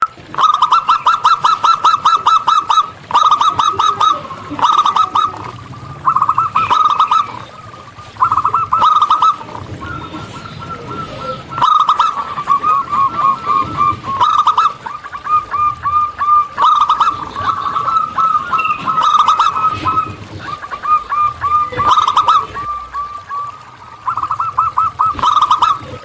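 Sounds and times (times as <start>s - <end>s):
dove cooing in short notes: 0.2s - 26.0s.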